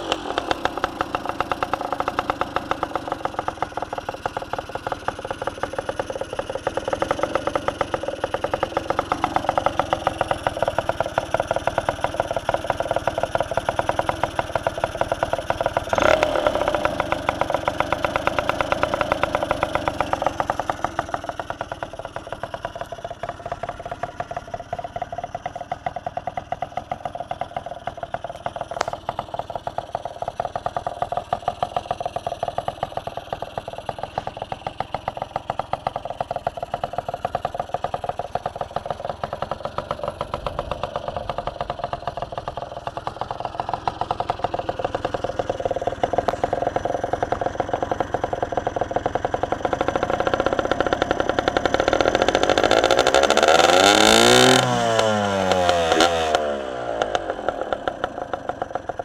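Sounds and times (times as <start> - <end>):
two-stroke engine running: 0.0 - 59.0.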